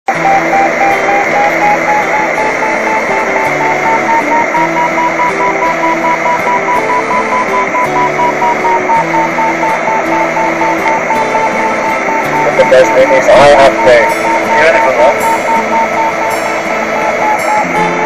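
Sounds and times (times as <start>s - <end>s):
variometer beeps: 0.1s - 18.0s.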